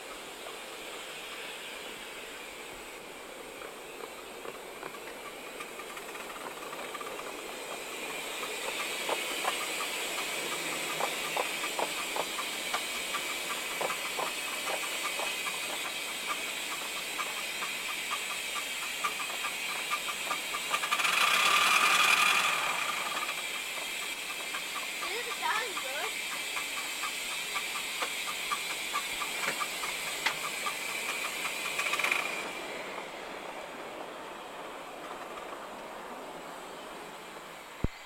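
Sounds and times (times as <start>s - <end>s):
steam hissing: 0.0s - 38.0s
wheels clicking: 2.7s - 37.1s.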